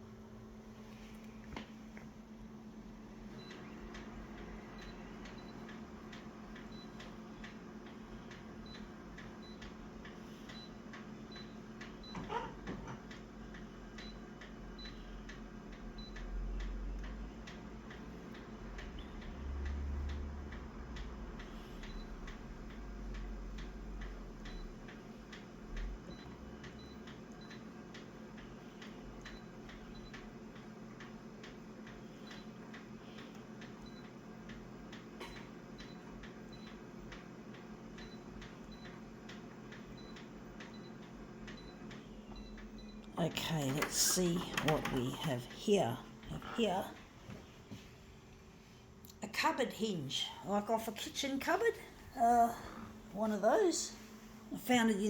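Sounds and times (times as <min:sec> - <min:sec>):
low steady hum: 0:00.0 - 0:37.2, 0:37.9 - 0:55.0.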